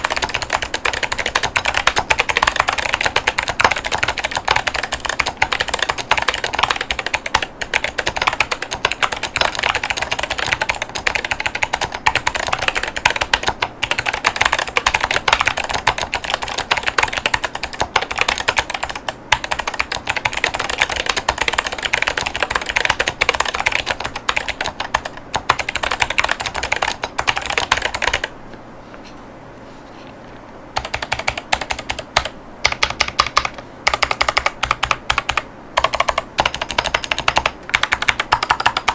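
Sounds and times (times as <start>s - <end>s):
typing on mechanical keyboard: 0.0s - 28.3s, 30.8s - 38.9s.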